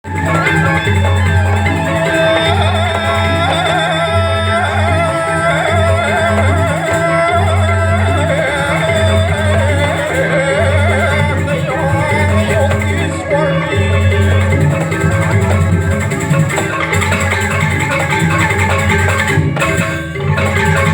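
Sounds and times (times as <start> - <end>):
metallophone melody: 0.0 - 20.9.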